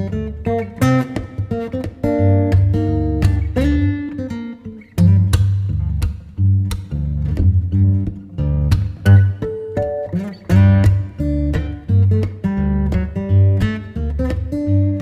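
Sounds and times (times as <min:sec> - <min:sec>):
plucked and strummed guitar: 0:00.0 - 0:15.0.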